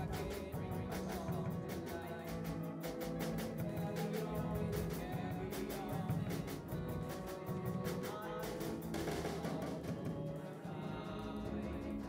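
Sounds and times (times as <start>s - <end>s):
drum kit beat: 0.0s - 12.0s
keyboard: 0.0s - 12.0s.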